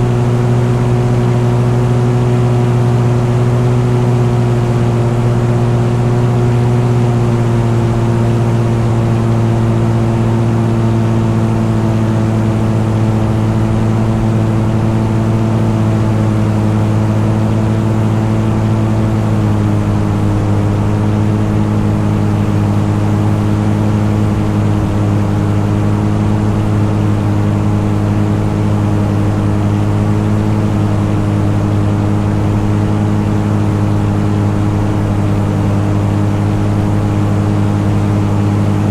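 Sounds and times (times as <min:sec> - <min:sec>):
engine droning under load: 0:00.0 - 0:38.9.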